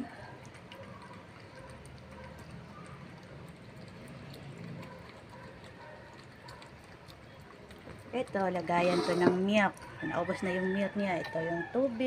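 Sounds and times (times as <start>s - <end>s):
dog chewing and licking: 0.0s - 12.0s.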